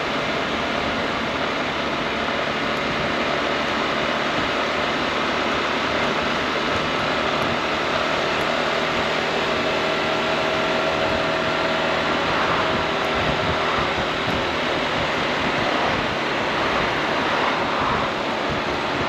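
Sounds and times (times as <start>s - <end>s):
scooter engine cruising: 0.0s - 19.0s
wind and road noise: 0.0s - 19.0s.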